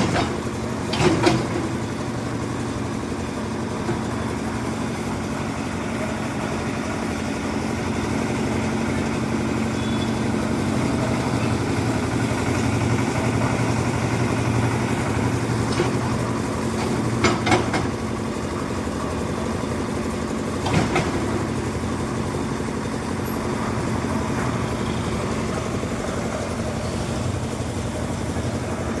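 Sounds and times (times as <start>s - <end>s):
concrete mixer engine running: 0.0s - 29.0s.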